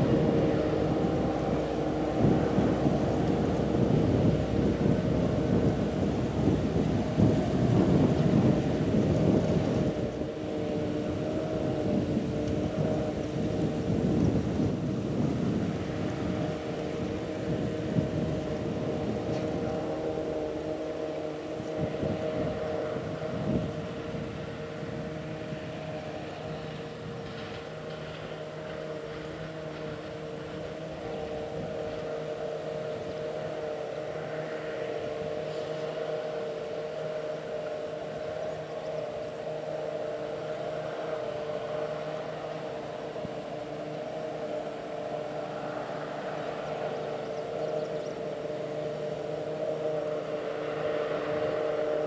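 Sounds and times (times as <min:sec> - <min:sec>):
forage harvester droning: 0:00.0 - 0:52.0.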